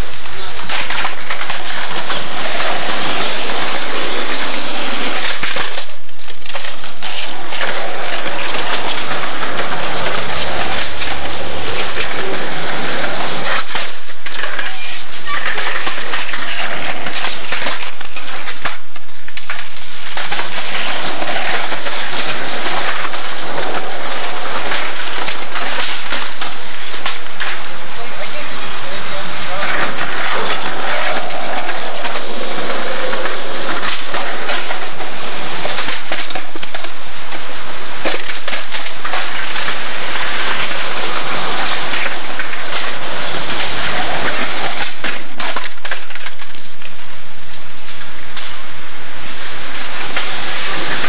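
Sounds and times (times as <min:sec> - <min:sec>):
skateboard clacks: 0:00.0 - 0:14.8, 0:15.4 - 0:47.0
skateboard wheels rolling on concrete: 0:00.0 - 0:51.0.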